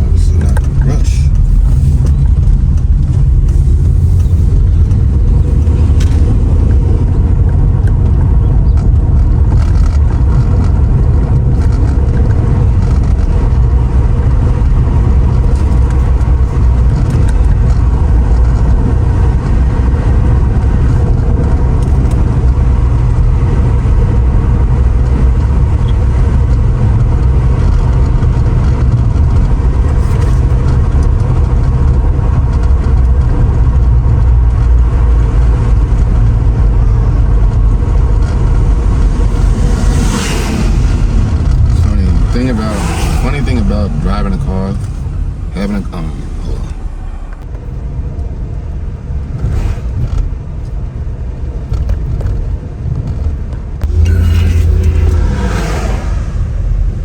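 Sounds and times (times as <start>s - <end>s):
car cruising engine rumble: 0.0s - 57.0s.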